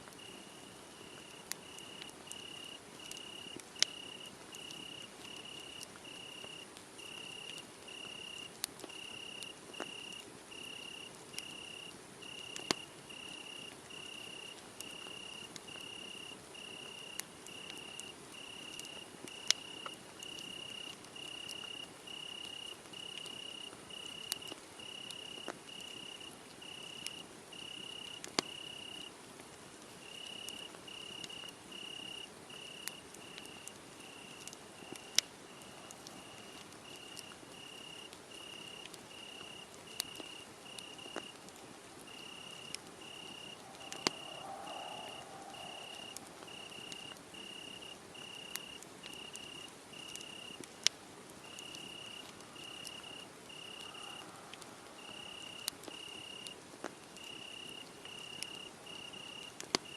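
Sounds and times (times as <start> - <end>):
wood fire crackling: 0.0 - 59.9
cricket chirping: 0.2 - 29.1, 30.0 - 41.4, 42.0 - 50.6, 51.4 - 56.6, 57.2 - 59.9.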